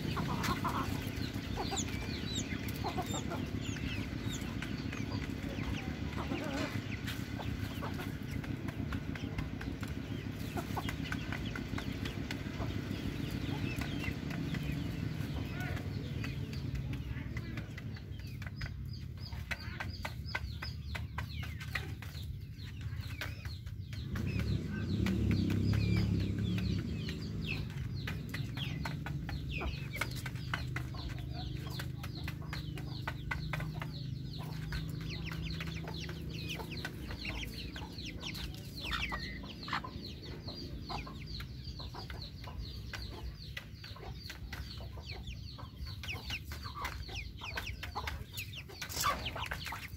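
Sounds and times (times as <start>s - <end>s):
chickens clucking: 0.0s - 49.9s
chicks cheeping: 0.0s - 49.9s.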